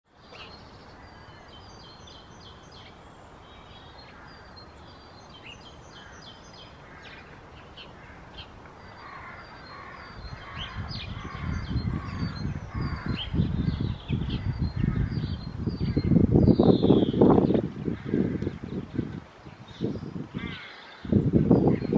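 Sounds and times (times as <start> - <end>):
songbirds chirping: 0.1 - 21.9
wind rumbling on microphone: 0.2 - 21.9.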